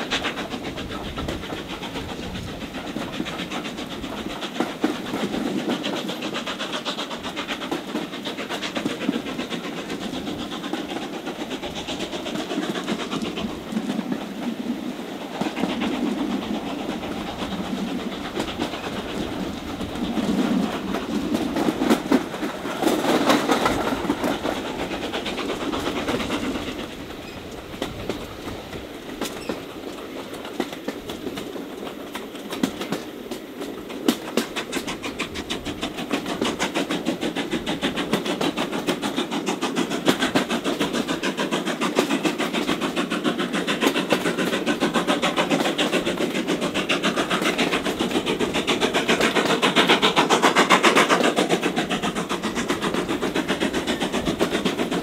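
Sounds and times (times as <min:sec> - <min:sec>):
train running rumble: 0:00.0 - 0:55.0
wheels clicking over rail joints: 0:00.0 - 0:55.0.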